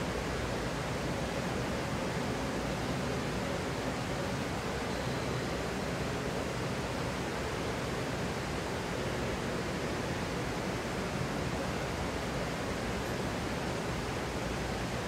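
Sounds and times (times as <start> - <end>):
rushing indoor ambience: 0.0 - 15.0.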